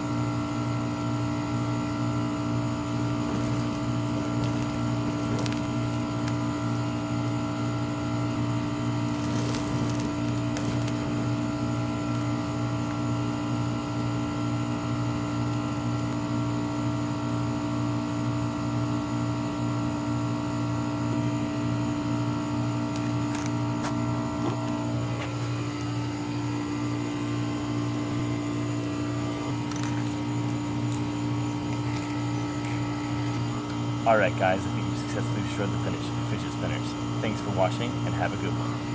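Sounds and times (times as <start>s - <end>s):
steady mechanical hum: 0.0s - 38.9s.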